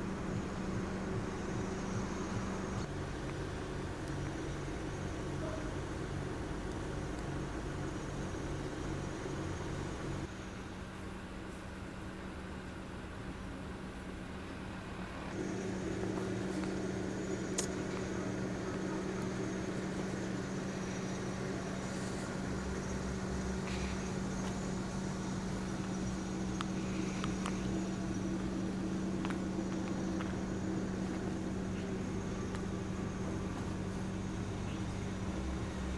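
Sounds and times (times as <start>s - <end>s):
low engine hum: 0.0s - 35.9s.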